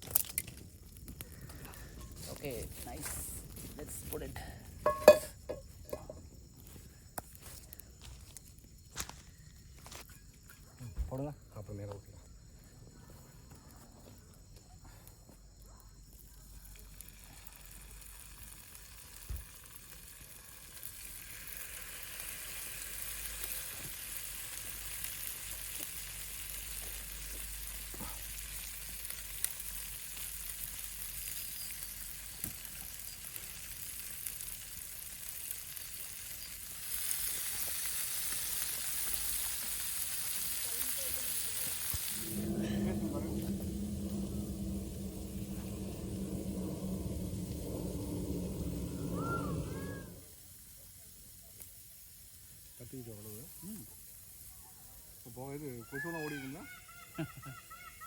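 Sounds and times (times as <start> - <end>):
fish sizzling over fire: 0.0 - 10.1, 16.1 - 56.6.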